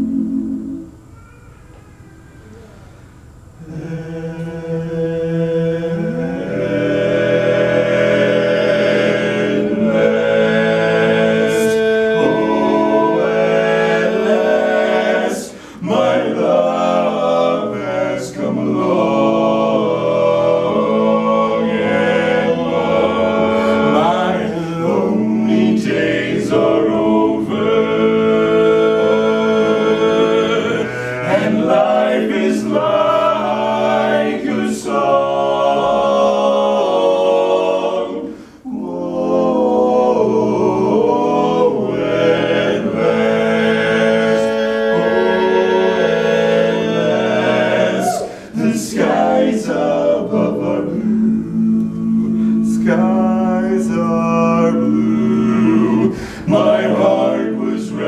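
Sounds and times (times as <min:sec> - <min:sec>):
male vocal quartet singing: 0:00.0 - 0:00.9, 0:03.6 - 0:58.0.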